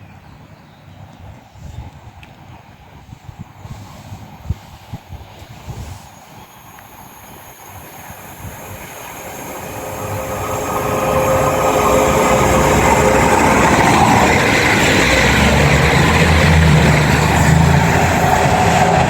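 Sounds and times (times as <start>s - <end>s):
train wheels rushing on rail: 1.6s - 19.0s
diesel engines: 2.8s - 19.0s.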